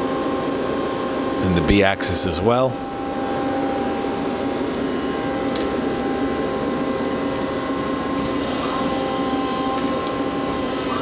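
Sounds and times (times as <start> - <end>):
lathe running with steady hum: 0.0 - 11.0.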